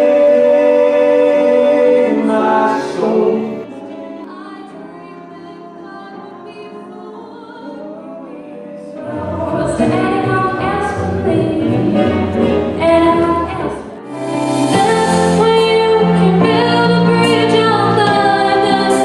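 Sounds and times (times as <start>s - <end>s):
music with singing: 0.0s - 19.0s.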